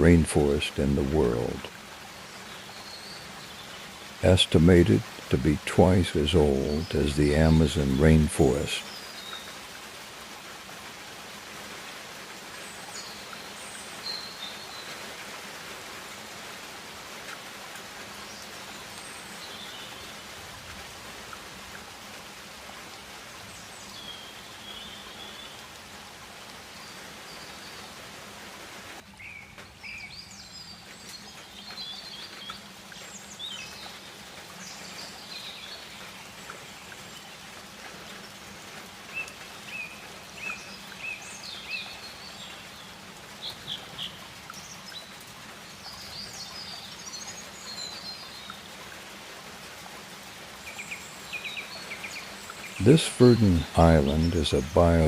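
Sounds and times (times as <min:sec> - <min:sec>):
steady rainforest hiss: 0:00.0 - 0:55.0.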